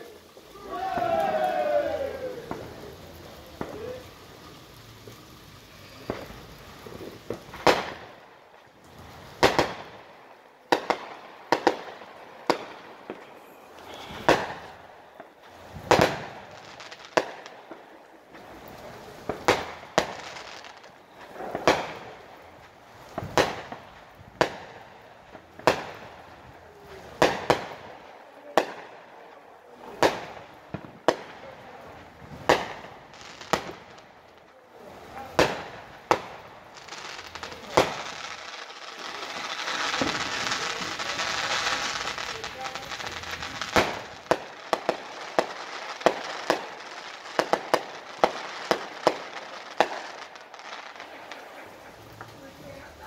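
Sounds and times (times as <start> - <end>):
fireworks banging: 0.0 - 53.0.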